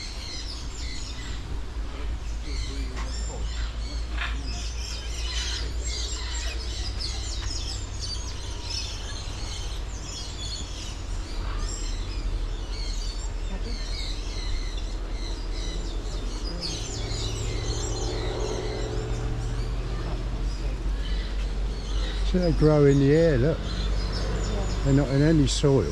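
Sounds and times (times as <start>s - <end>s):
birds chirping: 0.0s - 25.9s
steady low rumble: 0.0s - 25.9s.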